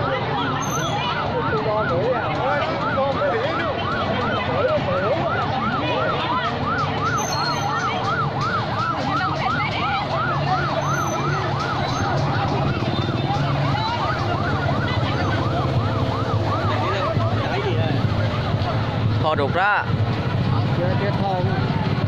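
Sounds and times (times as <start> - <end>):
siren wailing: 0.0 - 19.6
crowd chatter: 0.0 - 22.0.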